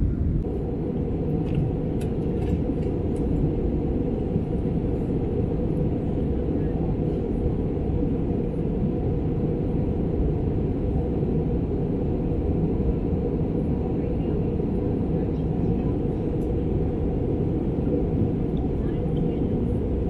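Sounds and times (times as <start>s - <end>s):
airplane cabin engine roar: 0.0s - 20.0s.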